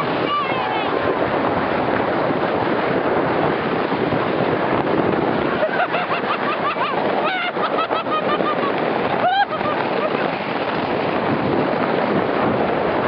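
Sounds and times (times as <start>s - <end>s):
water rushing and spraying: 0.0s - 13.0s
wind: 0.0s - 13.0s.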